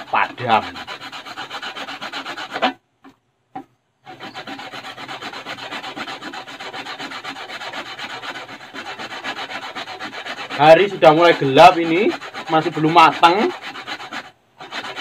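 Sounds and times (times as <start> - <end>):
coconut scraping on metal grater: 0.0 - 2.8, 4.0 - 15.0.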